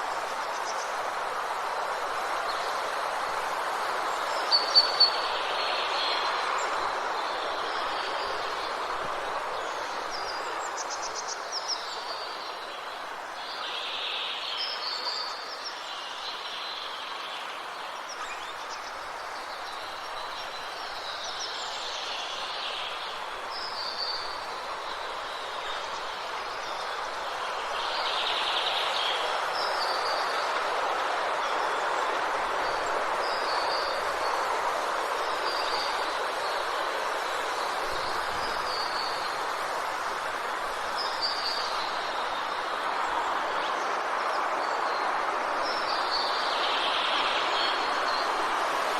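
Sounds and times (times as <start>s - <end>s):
steady wind: 0.0s - 48.9s.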